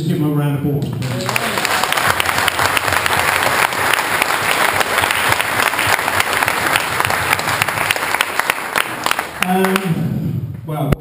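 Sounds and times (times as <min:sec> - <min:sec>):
crowd applauding: 0:00.9 - 0:10.0.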